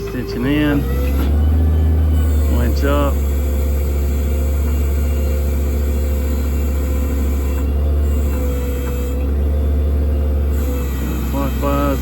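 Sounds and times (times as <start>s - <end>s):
hydraulic pump whine: 0.0s - 12.0s
truck engine low rumble: 0.0s - 12.0s.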